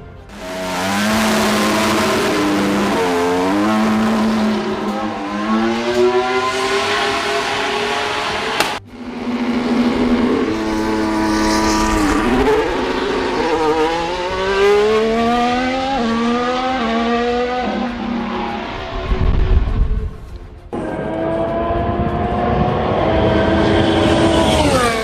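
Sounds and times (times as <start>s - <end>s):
race car engine: 0.0s - 25.0s.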